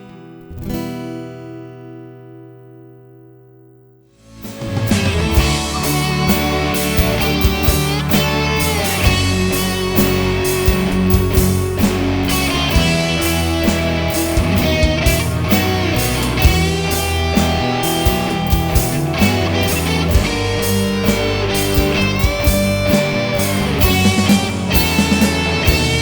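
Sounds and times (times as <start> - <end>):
instrumental rock music: 4.1 - 26.0.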